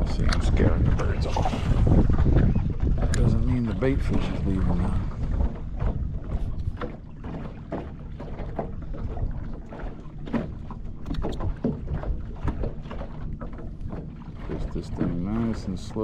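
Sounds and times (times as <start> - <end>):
water lapping against boat hull: 0.0 - 16.0
wind rumbling on microphone: 0.0 - 16.0.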